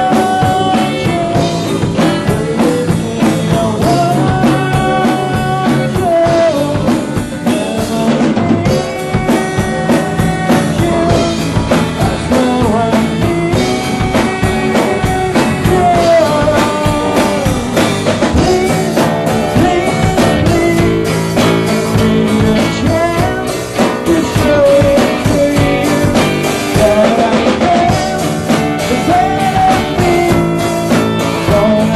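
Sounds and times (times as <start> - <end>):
drum kit beat: 0.0 - 31.9
electric guitars: 0.0 - 31.9.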